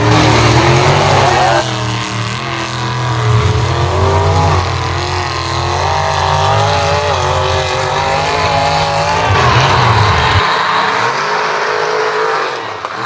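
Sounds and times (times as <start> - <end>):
truck engine revving high: 0.0 - 13.0.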